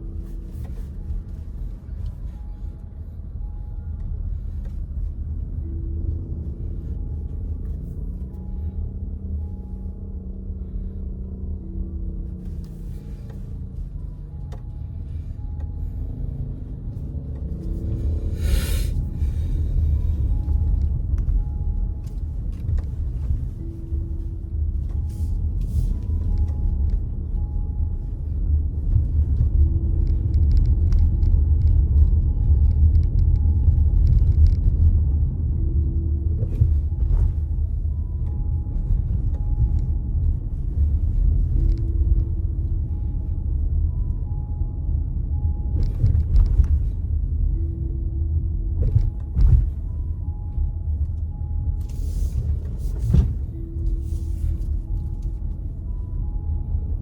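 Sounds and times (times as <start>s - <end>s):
car cabin road and engine rumble: 0.0s - 57.0s
faint soft music: 0.0s - 57.0s.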